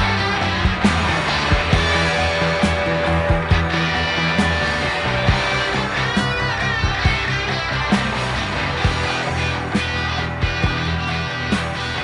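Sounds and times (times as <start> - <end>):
electric guitar: 0.0 - 12.0
rock music: 0.0 - 12.0
steady drum beat: 0.0 - 12.0.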